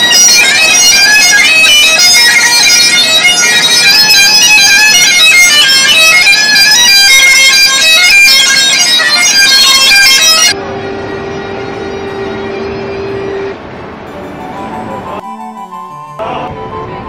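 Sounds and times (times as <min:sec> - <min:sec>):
bagpipes playing: 0:00.0 - 0:17.0.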